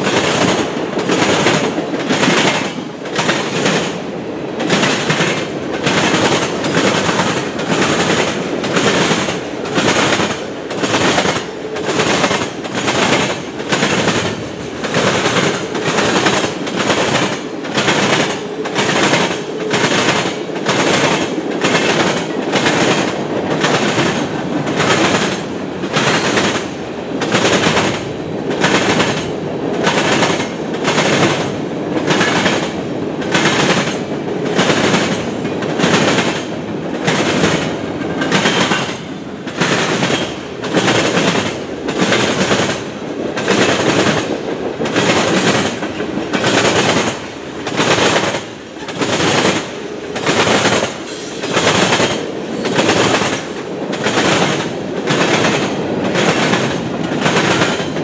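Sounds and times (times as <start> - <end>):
train rumble: 0.0 - 58.0
train wheels clacking on track: 0.0 - 58.0.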